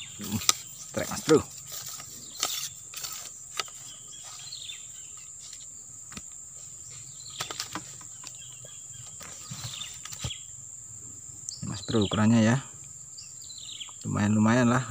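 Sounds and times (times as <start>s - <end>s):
insects droning: 0.0s - 14.9s.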